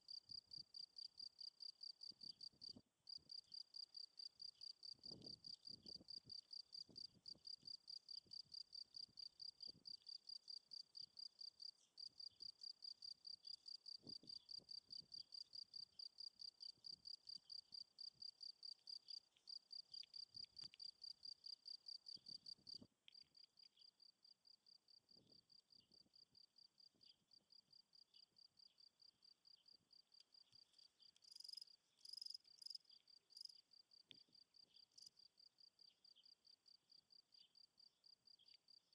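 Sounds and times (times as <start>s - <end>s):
crickets chirping: 0.1s - 24.1s, 24.9s - 38.9s.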